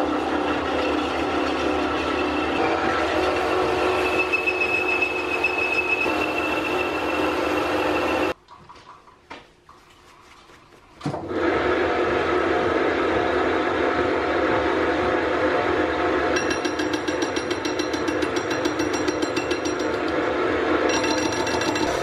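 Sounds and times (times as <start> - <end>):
metal lathe running with whine: 0.0 - 8.3, 11.5 - 22.0.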